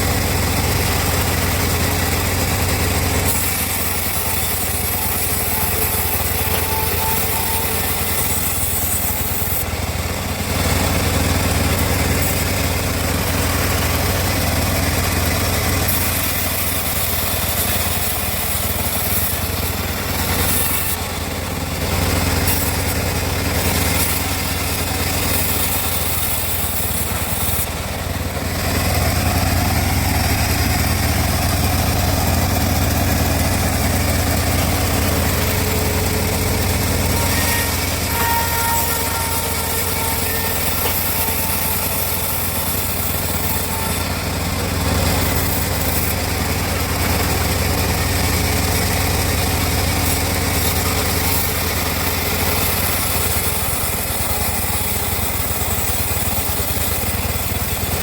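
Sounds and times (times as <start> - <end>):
saw blade hissing through wood: 0.0 - 58.0
sawmill engine humming: 0.0 - 58.0.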